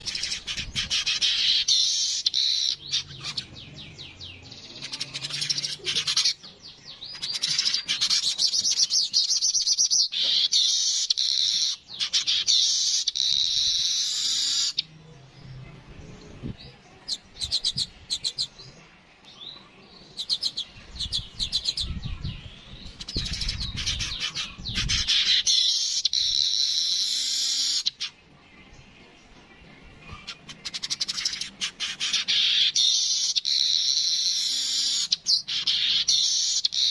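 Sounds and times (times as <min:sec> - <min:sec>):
birds chattering trills: 0:00.0 - 0:36.9.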